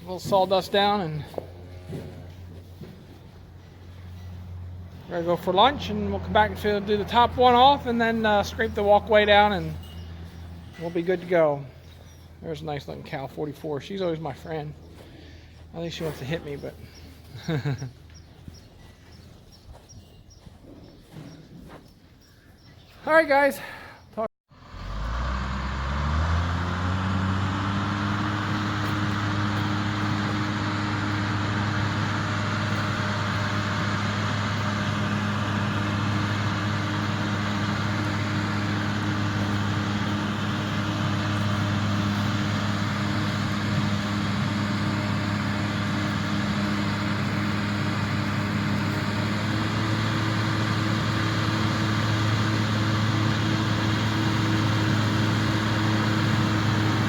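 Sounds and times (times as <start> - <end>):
tractor diesel engine running: 0.0 - 20.0, 24.5 - 57.0.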